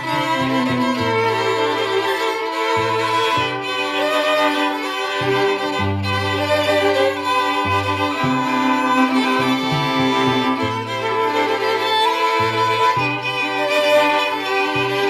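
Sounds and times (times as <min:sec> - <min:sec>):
bowed string ensemble: 0:00.0 - 0:15.0.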